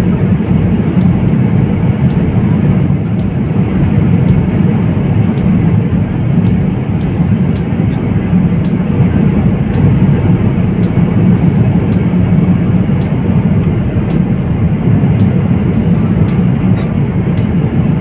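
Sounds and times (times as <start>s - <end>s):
airliner cabin drone: 0.0s - 18.0s.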